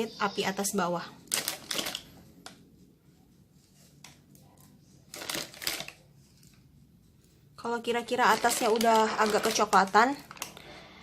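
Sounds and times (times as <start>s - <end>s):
crinkly rustling handling noise: 1.2s - 10.9s.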